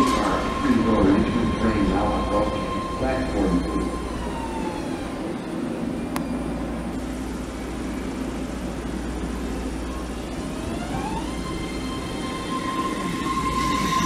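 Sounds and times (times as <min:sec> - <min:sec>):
train humming: 0:00.0 - 0:14.0
train propulsion whine: 0:00.0 - 0:14.0.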